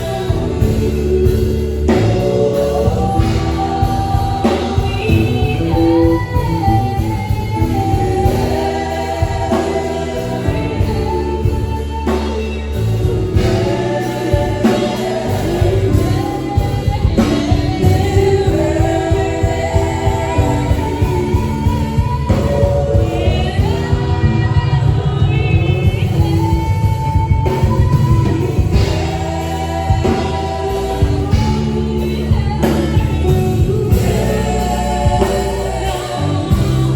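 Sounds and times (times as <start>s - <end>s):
gospel singing: 0.0s - 36.9s
instrumental backing with bass line: 0.0s - 36.9s.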